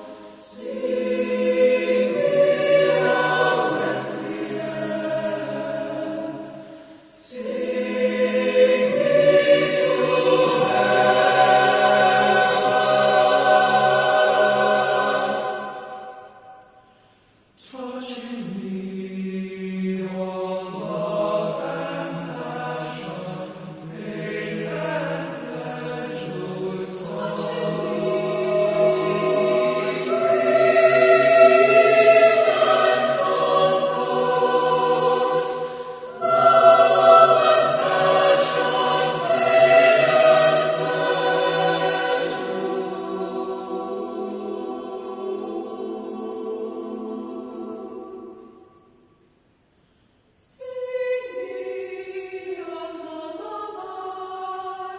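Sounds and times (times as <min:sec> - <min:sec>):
choir singing sustained chords: 0:00.0 - 0:54.9.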